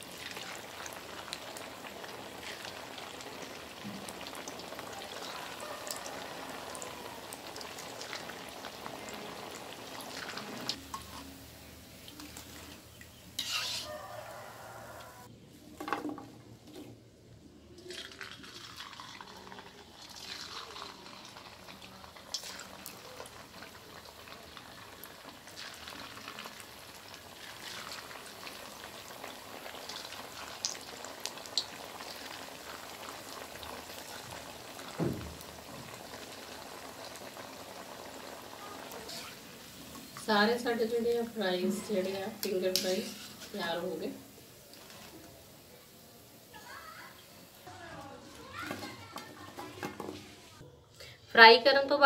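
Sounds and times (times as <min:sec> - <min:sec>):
food deep-frying in oil: 0:00.0 - 0:15.2, 0:17.6 - 0:50.6.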